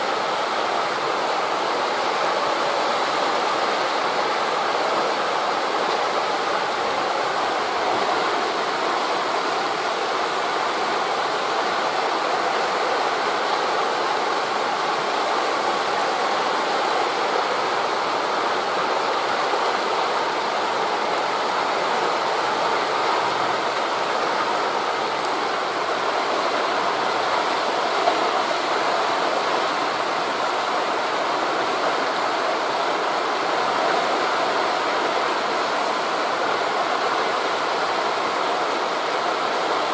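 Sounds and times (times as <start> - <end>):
wind through leaves: 0.0 - 39.9.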